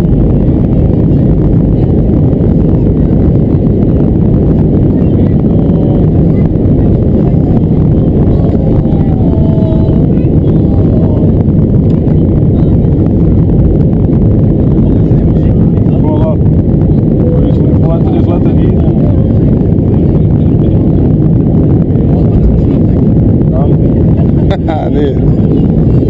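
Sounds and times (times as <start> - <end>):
airliner cabin engine noise: 0.0 - 26.0
faint voices: 0.0 - 26.0.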